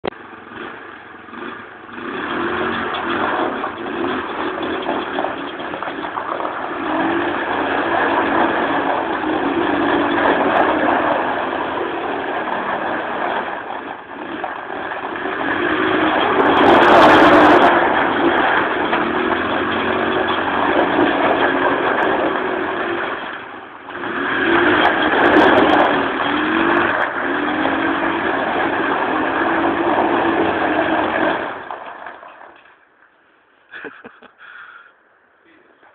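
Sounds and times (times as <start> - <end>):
steady rushing noise: 0.0 - 32.0
atv engine revving: 0.0 - 32.8.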